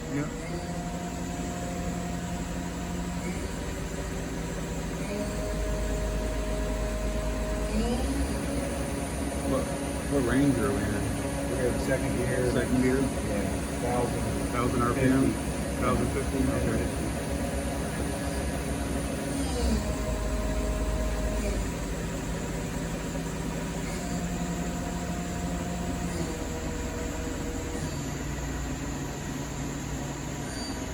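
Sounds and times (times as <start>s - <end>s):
lathe machine hum: 0.0s - 30.9s.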